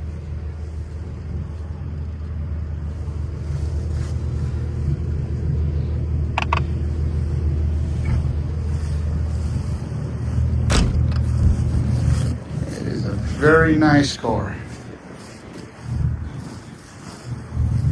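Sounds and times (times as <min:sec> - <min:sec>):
car engine running: 0:00.0 - 0:17.9.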